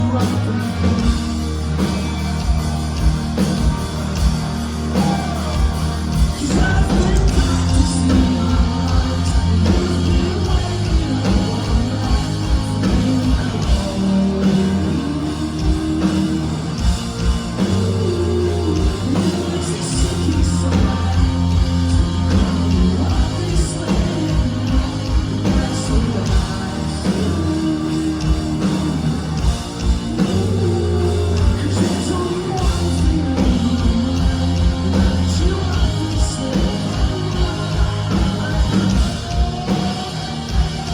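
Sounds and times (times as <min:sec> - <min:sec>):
rock music with singing: 0:00.0 - 0:40.9.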